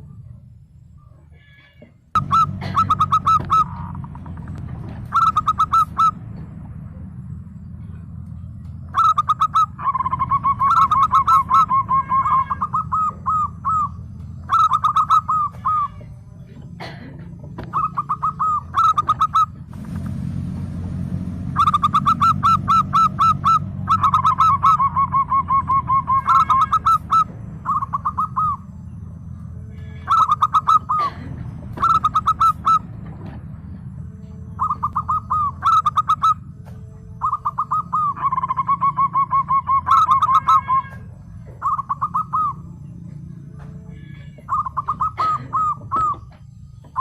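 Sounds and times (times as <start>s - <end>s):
low background rumble: 0.0s - 47.0s
dove cooing: 1.5s - 6.5s, 8.9s - 19.7s, 21.5s - 29.0s, 29.8s - 47.0s.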